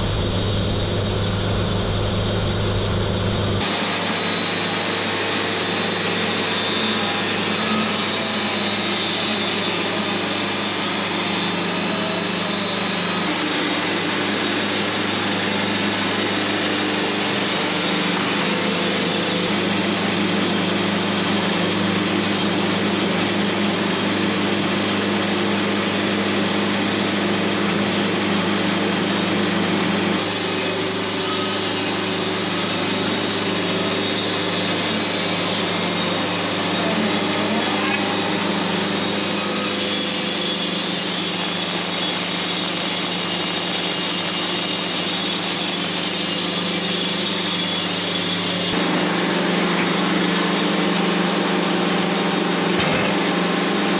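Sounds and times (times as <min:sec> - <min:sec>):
band sawmill sawing log: 0:00.0 - 0:53.9.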